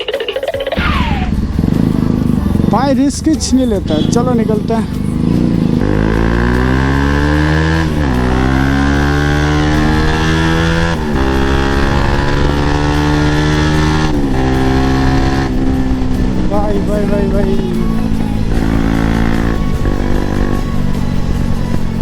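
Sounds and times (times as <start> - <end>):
motorcycle engine accelerating through gears: 0.8 - 22.0.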